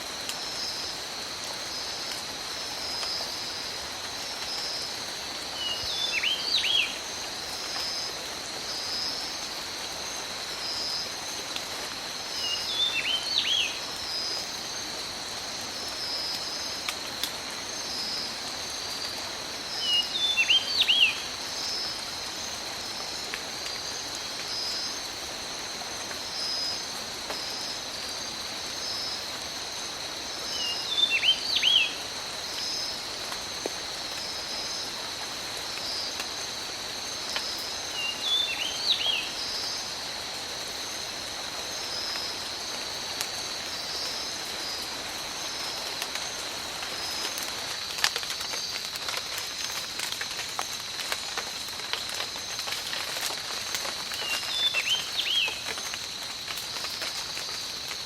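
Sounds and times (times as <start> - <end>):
insect drone: 0.0 - 58.0
steady rain: 0.0 - 58.0.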